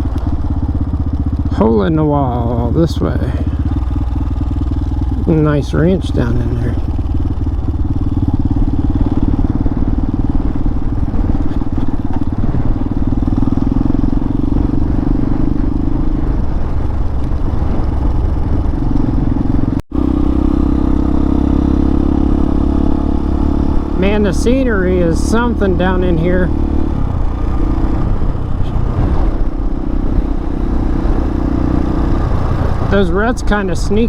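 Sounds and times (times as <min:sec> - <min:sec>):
motorcycle engine running: 0:00.0 - 0:34.0
road noise: 0:00.0 - 0:34.0
wind noise: 0:00.0 - 0:34.0.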